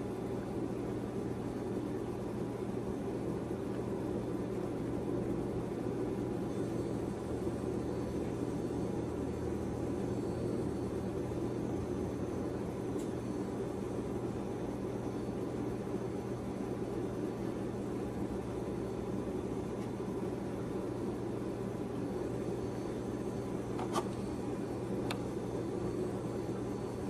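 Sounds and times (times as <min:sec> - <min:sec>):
low hum with hiss: 0:00.0 - 0:27.0.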